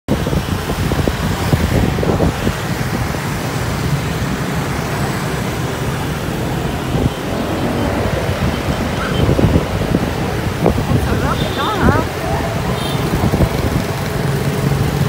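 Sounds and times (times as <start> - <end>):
scooter engine and road noise: 0.1 - 15.0
other scooters passing: 0.2 - 15.0.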